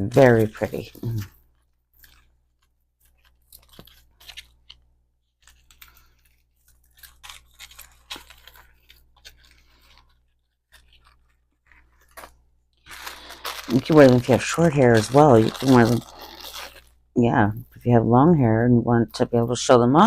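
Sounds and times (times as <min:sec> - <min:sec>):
jewelry packaging crinkling: 0:00.0 - 0:17.8.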